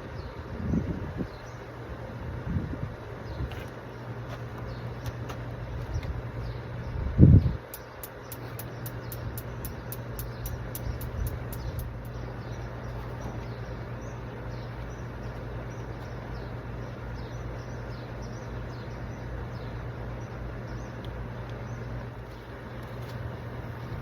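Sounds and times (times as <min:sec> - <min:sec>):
small birds chirping: 0:00.0 - 0:02.3, 0:03.0 - 0:24.0
steady low hum: 0:00.0 - 0:24.0.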